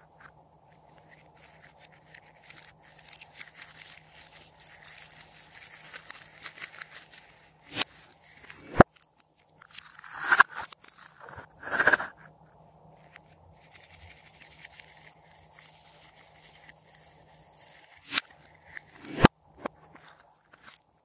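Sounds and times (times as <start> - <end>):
faint scraping and squishing: 0.0 - 21.0.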